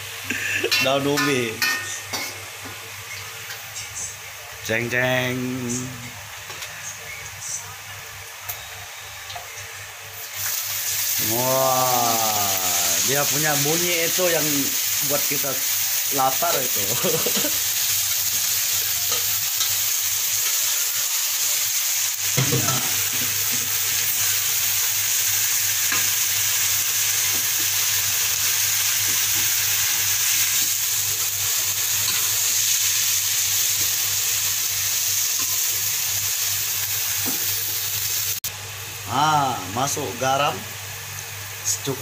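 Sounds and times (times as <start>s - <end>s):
leaves sizzling in hot oil: 0.0s - 42.0s.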